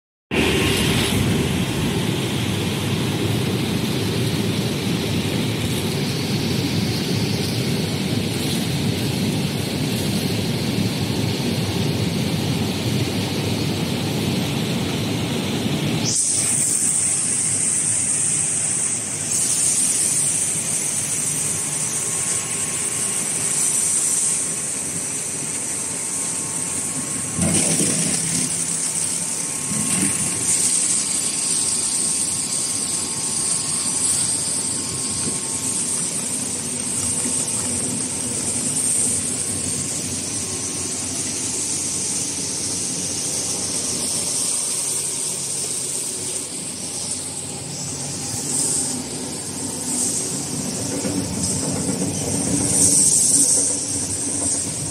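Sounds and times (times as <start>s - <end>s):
high hiss: 0.3s - 54.9s
machinery clatter: 0.3s - 54.9s
processing machinery running: 0.3s - 54.9s.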